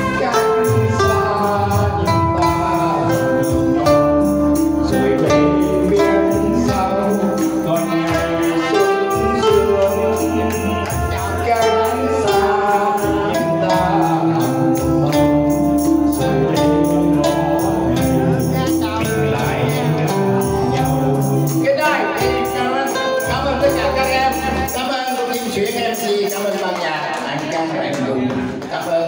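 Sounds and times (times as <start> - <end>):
guitar playing slow ballad: 0.0 - 24.8
tambourine jingling: 0.0 - 27.3
man singing into microphone: 0.0 - 29.0.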